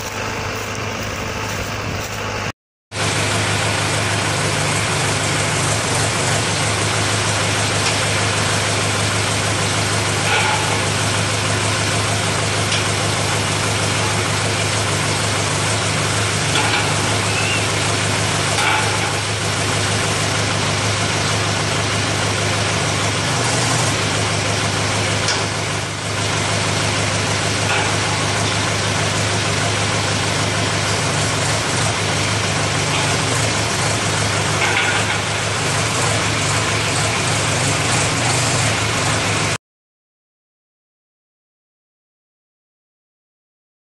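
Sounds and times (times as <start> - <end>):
tractor engine idling: 0.0 - 39.6.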